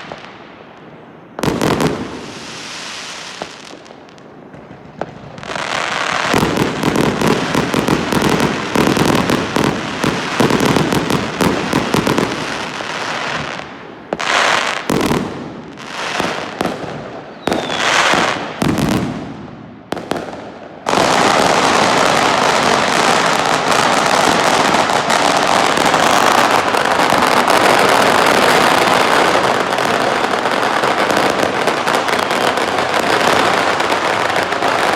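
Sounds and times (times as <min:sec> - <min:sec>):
fireworks crackling and popping: 0:00.0 - 0:34.9.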